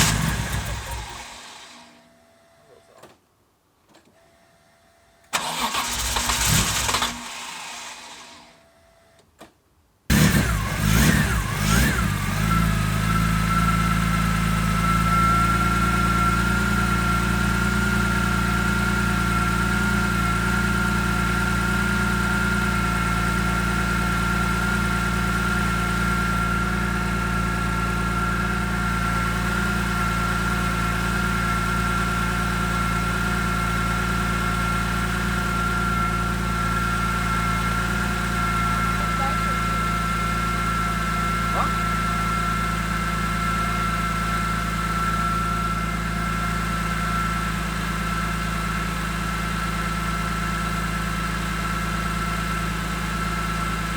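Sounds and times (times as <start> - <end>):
car engine starting and idling: 0.0 - 3.2, 5.2 - 53.9.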